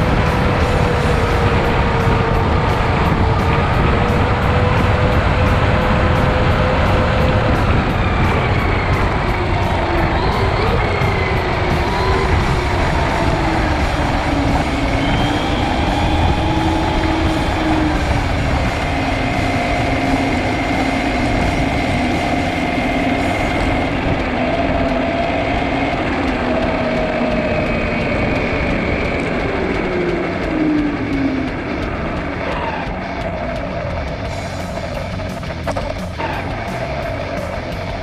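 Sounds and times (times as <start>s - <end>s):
engine tones: 0.0s - 38.0s
traffic rumble: 0.0s - 38.0s.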